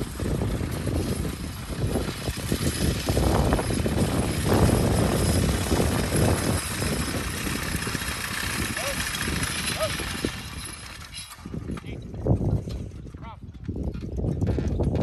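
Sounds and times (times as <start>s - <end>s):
sickle-bar mower clattering: 0.0s - 15.0s.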